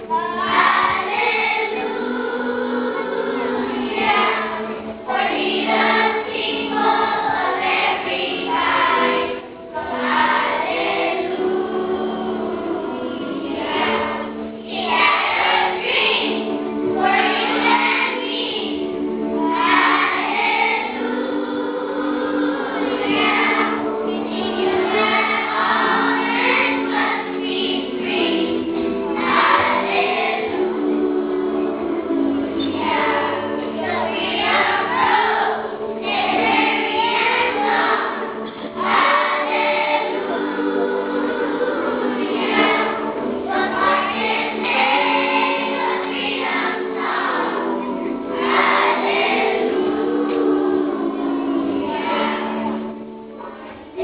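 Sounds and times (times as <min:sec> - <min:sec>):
choir singing: 0:00.0 - 0:54.0
held chords accompaniment: 0:00.0 - 0:54.0.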